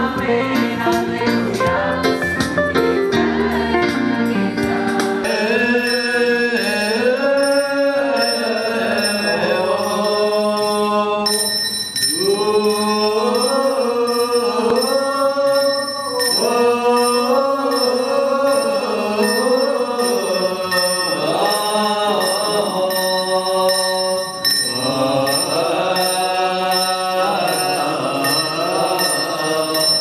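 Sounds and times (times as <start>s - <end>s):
choir singing a chant: 0.0s - 2.2s, 3.2s - 30.0s
steady ringing tones: 5.3s - 30.0s.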